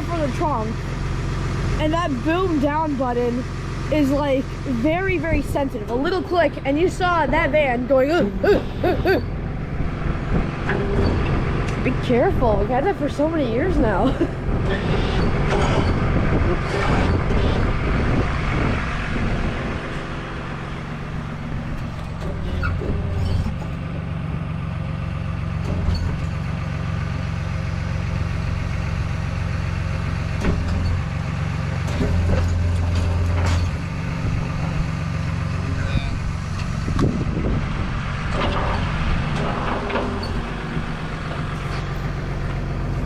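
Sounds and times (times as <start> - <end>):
truck engine with hydraulics humming: 0.0 - 43.0.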